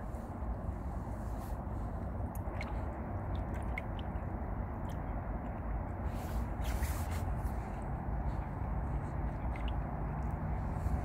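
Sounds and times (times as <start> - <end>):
river water rumbling: 0.0 - 11.0
soft wet lapping: 0.1 - 11.0.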